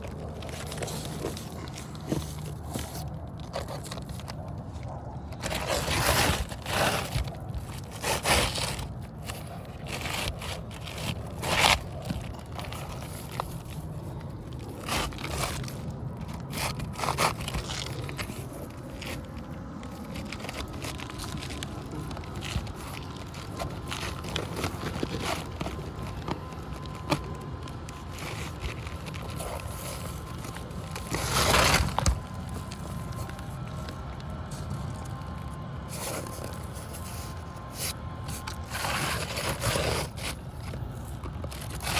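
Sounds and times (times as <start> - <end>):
shingles scraping and crackling: 0.0 - 41.9.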